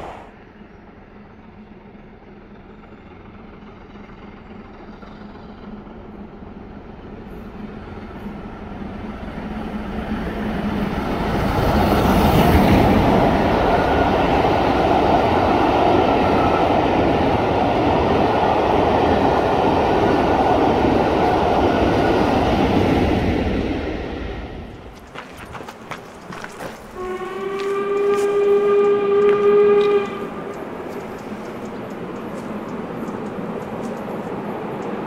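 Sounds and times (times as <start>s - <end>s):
steam train passing: 0.0s - 35.0s
wheels rumbling on rails: 0.0s - 35.0s.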